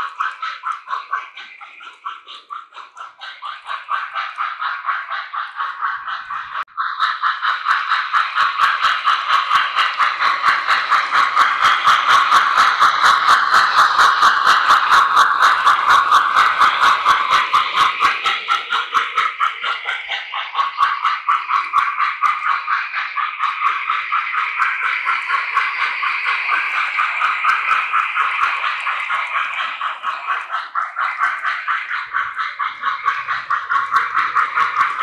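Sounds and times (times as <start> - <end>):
model steam locomotive chuffing: 0.0 - 35.0
steady steam hiss: 0.0 - 35.0.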